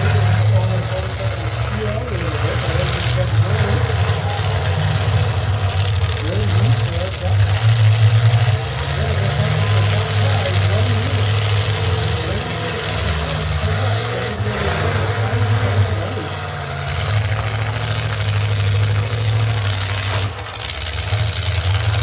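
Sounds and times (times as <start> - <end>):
truck engines running: 0.0 - 22.0.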